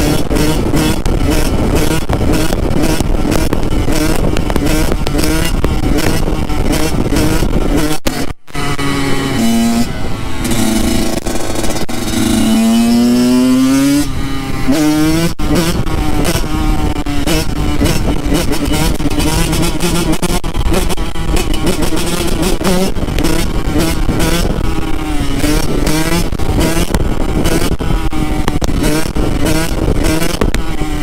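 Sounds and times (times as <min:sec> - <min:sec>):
two-stroke motorbike engine: 0:00.0 - 0:31.0
wind rush on microphone: 0:00.0 - 0:31.0.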